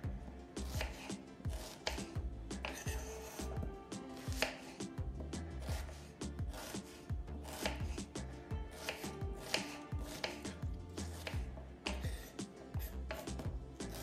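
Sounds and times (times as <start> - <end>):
background music: 0.0 - 14.0
knife striking cutting board: 0.7 - 14.0.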